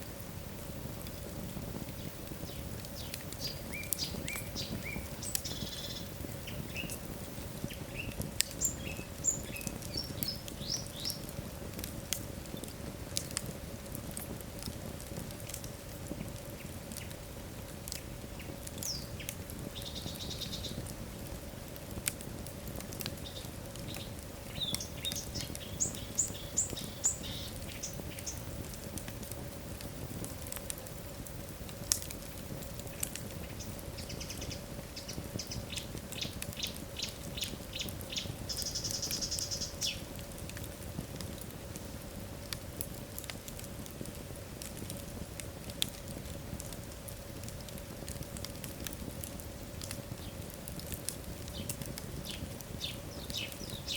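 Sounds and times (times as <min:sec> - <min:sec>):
high-pitched chirps from burning wood: 0:00.0 - 0:53.9
logs crackling and popping: 0:00.0 - 0:53.9
low fire rumble: 0:00.0 - 0:53.9.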